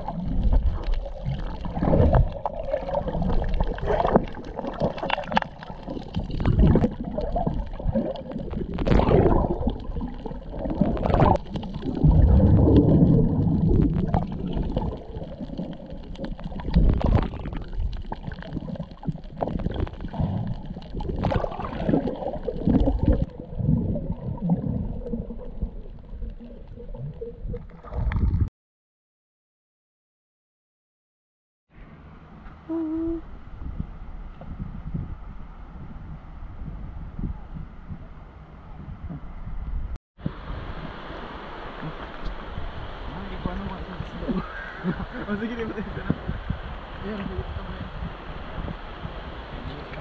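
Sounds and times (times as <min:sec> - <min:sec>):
low underwater rumbles: 0:00.0 - 0:28.5, 0:31.8 - 0:50.0
underwater bubbling and gurgling: 0:00.0 - 0:28.5, 0:32.6 - 0:50.0.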